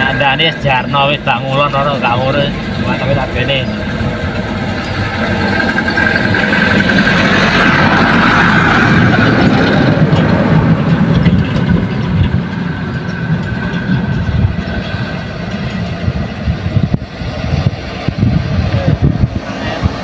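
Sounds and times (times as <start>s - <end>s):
dump truck diesel engine passing: 0.0s - 20.0s
second truck engine approaching: 0.0s - 20.0s.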